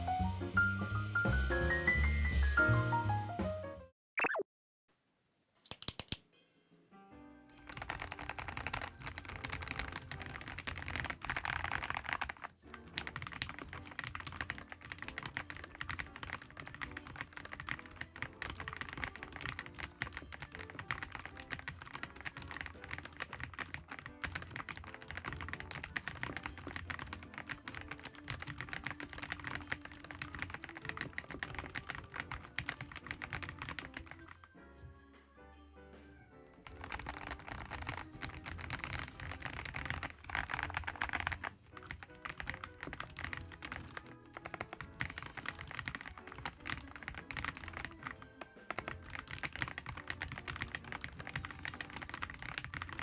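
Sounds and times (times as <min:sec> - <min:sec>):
background music: 0:00.0 - 0:03.9, 0:05.7 - 0:53.0
mechanical keyboard typing: 0:05.7 - 0:06.2, 0:07.6 - 0:34.5, 0:36.6 - 0:53.0.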